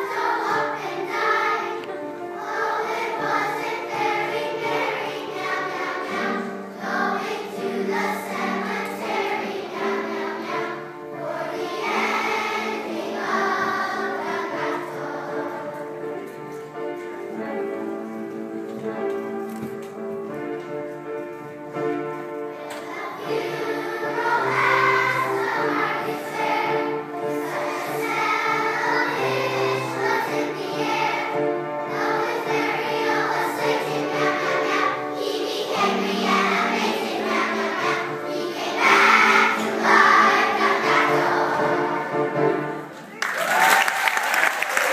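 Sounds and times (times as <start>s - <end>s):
children's choir singing: 0.0s - 43.1s
instrumental backing music: 0.1s - 43.1s.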